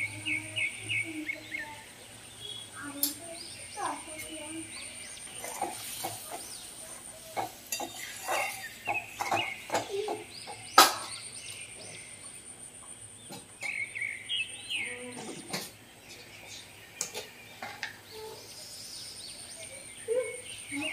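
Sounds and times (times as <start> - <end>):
birds chirping: 0.0 - 20.9.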